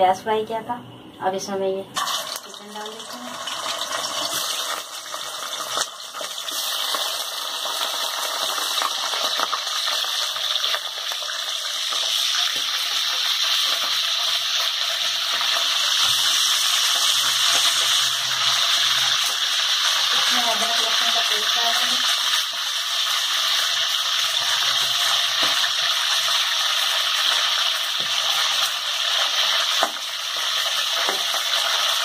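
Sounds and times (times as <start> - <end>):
chicken sizzling in hot oil: 2.0 - 32.0.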